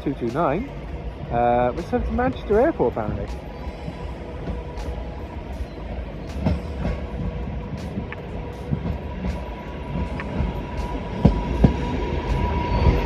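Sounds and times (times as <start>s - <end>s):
train rumble with faint whine: 0.0s - 13.0s.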